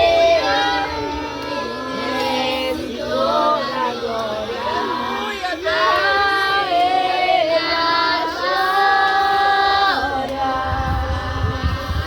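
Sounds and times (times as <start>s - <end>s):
children singing worship song: 0.0s - 12.0s.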